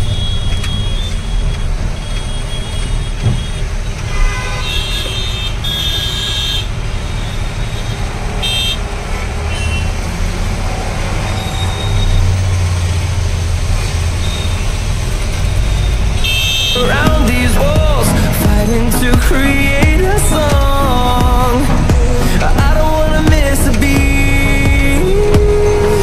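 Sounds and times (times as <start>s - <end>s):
traffic: 0.0s - 26.0s
truck engine rumble: 0.0s - 26.0s.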